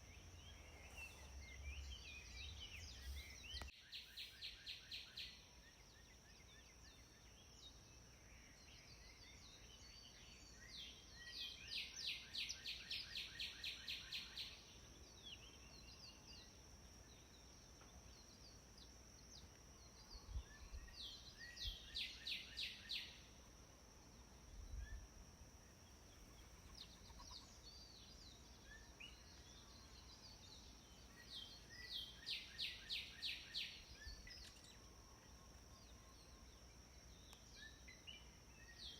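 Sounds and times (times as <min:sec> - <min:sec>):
faint outdoor background noise: 0:00.0 - 0:38.9
songbird singing: 0:00.0 - 0:38.9.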